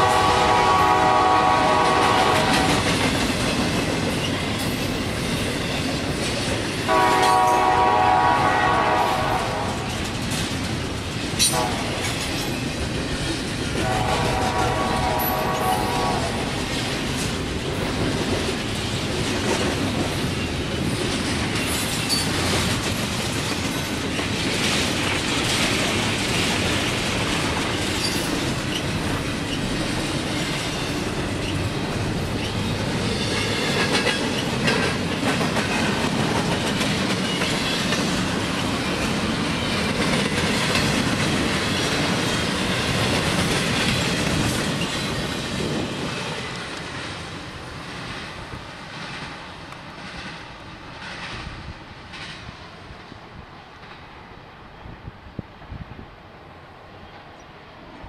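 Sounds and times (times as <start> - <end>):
freight train wheels rattling: 0.0 - 54.2.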